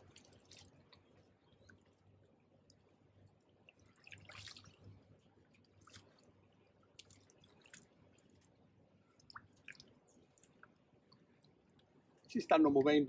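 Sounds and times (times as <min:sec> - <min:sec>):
water dripping and splashing: 0:00.0 - 0:02.0, 0:02.6 - 0:12.0.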